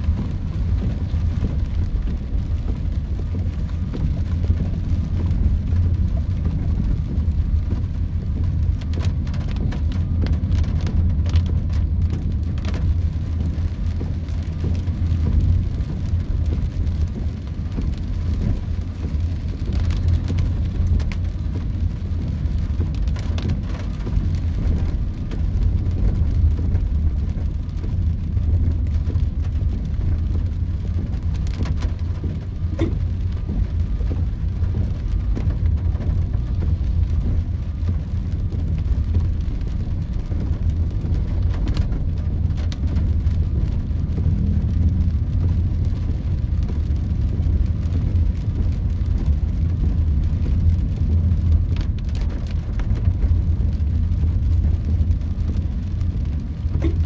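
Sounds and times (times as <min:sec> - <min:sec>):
car driving on wet road: 0:00.0 - 0:57.0
rain on car: 0:00.0 - 0:57.0.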